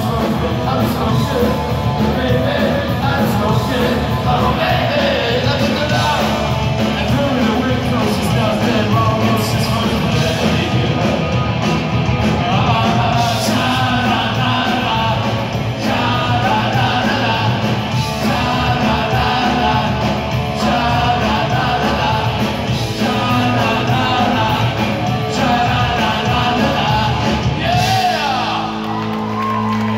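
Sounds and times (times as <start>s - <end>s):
man singing: 0.0s - 11.4s, 12.3s - 28.8s
live punk rock band: 0.0s - 29.9s.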